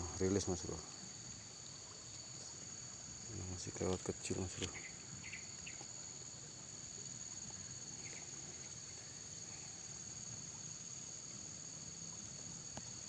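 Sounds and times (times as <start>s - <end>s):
shrill insect chorus: 0.0s - 13.0s.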